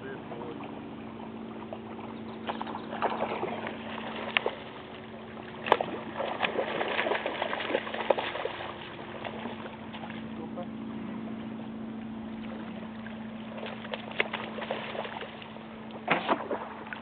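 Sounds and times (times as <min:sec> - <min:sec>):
steady low hum: 0:00.0 - 0:17.0
person wading through water: 0:00.2 - 0:17.0.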